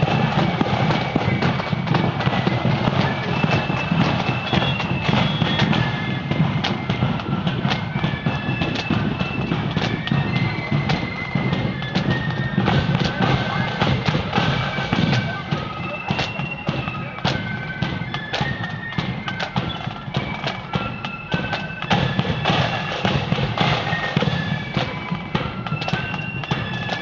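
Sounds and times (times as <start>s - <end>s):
loud busy drumming: 0.0s - 27.0s
shrill flute melody: 0.0s - 27.0s.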